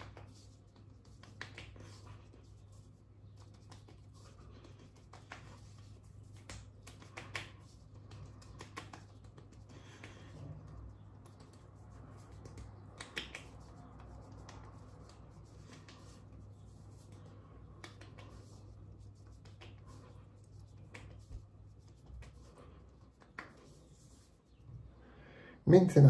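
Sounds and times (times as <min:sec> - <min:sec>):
fingertips patting skin: 0:00.0 - 0:24.6.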